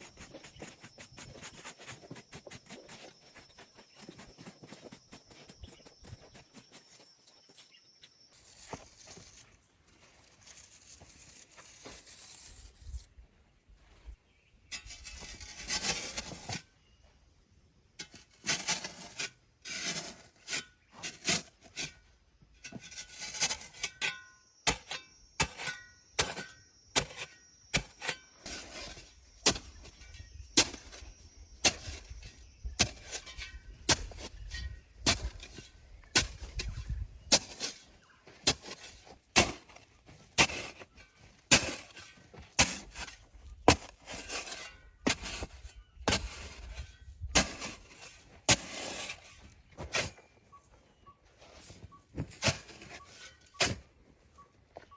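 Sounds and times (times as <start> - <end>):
hand tool scraping: 0.0 - 13.1, 14.7 - 16.7, 18.0 - 50.5, 51.4 - 54.1.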